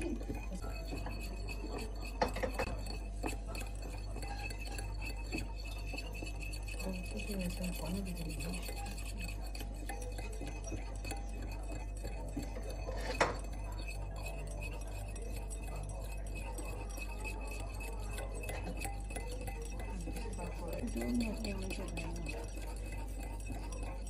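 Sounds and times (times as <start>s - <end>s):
fork scraping a glass bowl: 0.0s - 24.0s.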